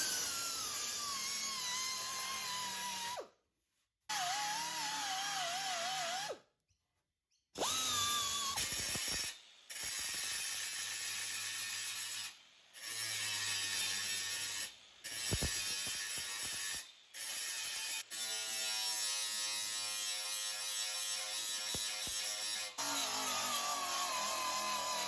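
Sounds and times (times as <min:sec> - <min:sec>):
power grinder on metal: 0:00.0 - 0:03.2, 0:07.6 - 0:25.0.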